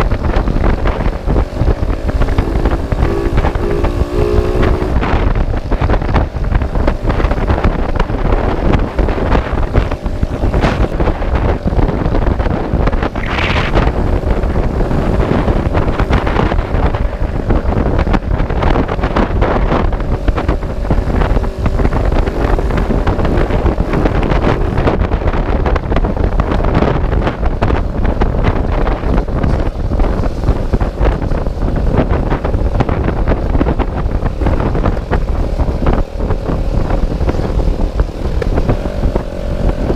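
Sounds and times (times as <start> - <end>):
faint engine drone: 0.0 - 39.9
wind buffeting microphone: 0.0 - 39.9.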